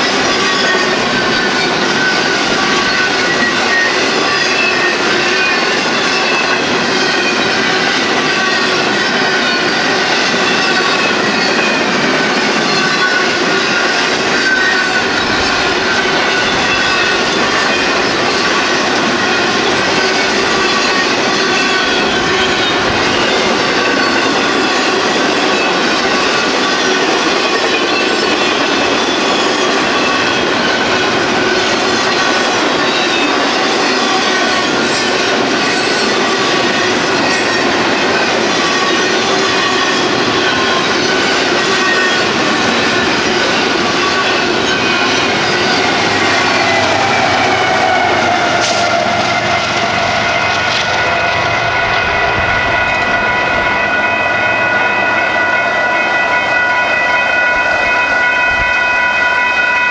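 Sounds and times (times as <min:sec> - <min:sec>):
crossing signal bells ringing: 0:00.0 - 0:59.9
train wheels clattering on rails: 0:00.0 - 0:59.9.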